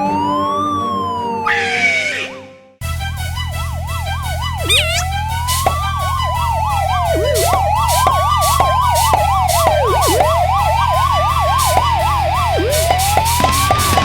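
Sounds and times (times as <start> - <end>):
police siren wail: 0.0 - 2.5, 3.5 - 14.0
police siren yelp: 0.0 - 2.5, 4.0 - 14.0.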